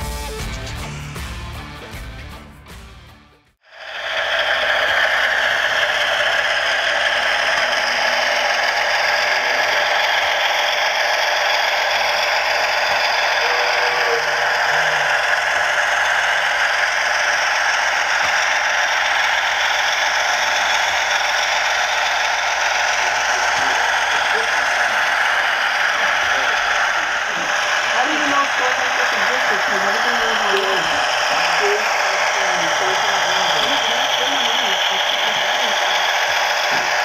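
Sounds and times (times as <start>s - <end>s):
model train wheels clattering: 3.8s - 37.0s
motor whir: 3.8s - 37.0s.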